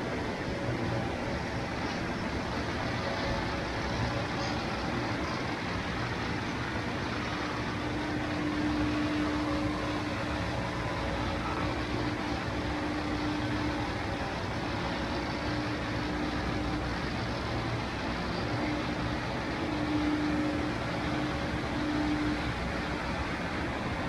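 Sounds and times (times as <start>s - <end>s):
gondola cabin rolling on rails: 0.0s - 24.0s
station machinery hum: 0.0s - 24.0s.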